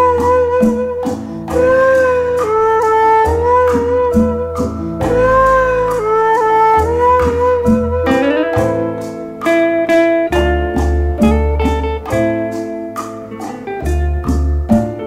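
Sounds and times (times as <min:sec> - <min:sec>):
instrumental music with beat: 0:00.0 - 0:15.0.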